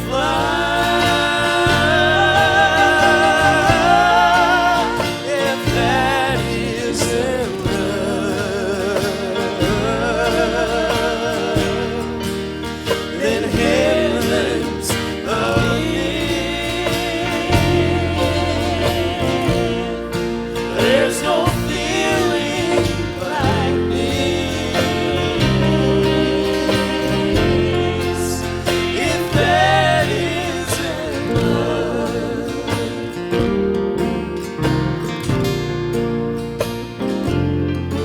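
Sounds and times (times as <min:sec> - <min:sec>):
gospel band playing: 0:00.0 - 0:38.0.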